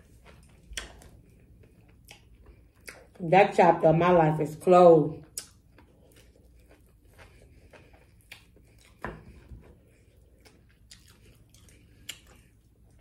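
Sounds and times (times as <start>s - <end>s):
chewing mouth clicks and smacks: 0.2s - 3.2s, 5.2s - 13.0s.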